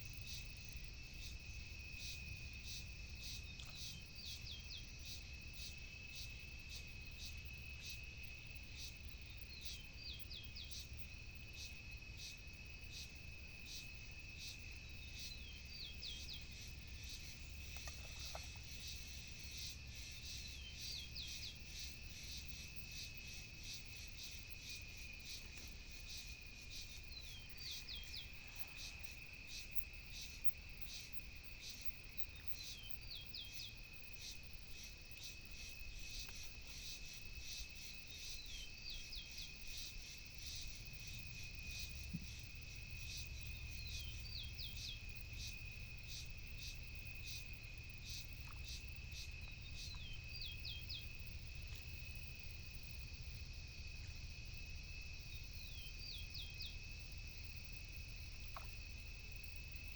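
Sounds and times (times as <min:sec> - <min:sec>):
high insect trill: 0:00.0 - 0:59.9.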